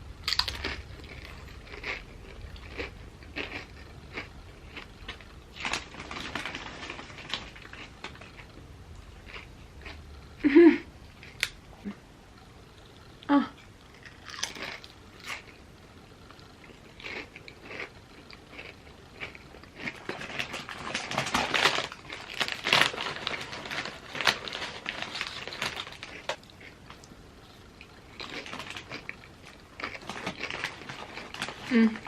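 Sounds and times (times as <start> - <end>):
chips being chewed: 0.2 - 10.0, 13.9 - 15.6, 16.3 - 27.2, 27.8 - 32.0.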